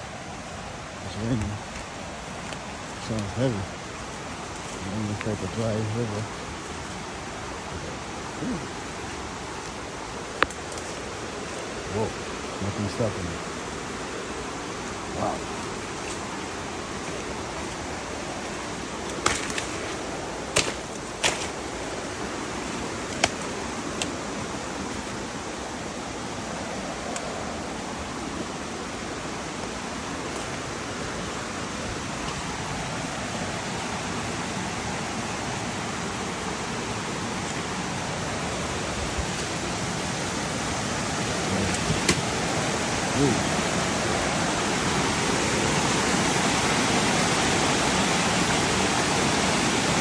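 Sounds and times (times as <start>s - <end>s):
river rushing: 0.0s - 50.0s.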